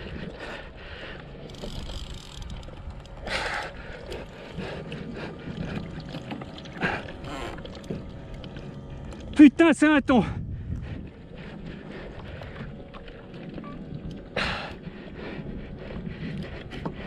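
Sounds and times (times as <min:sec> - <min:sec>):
water lapping against kayak hull: 0:00.0 - 0:17.0.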